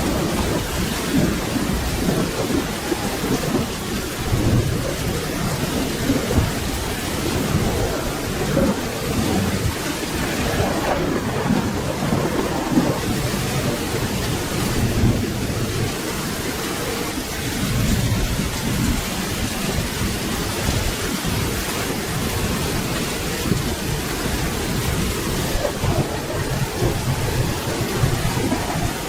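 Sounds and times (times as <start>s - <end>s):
rolling thunder rumble: 0.0s - 29.0s
steady rain: 0.0s - 29.0s.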